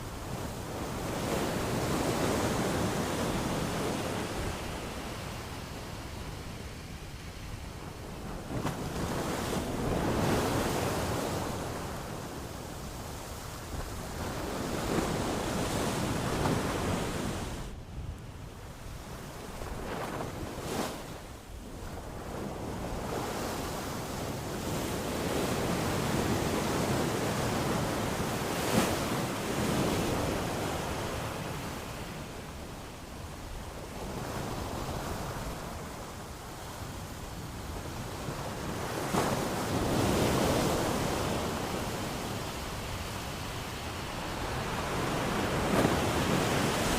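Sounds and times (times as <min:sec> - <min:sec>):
waves breaking on shore: 0:00.0 - 0:17.8, 0:18.4 - 0:46.9.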